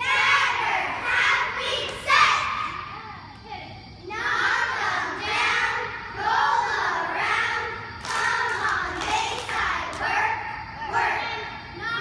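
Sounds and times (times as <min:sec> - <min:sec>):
girls chanting a cheer: 0:00.0 - 0:12.0.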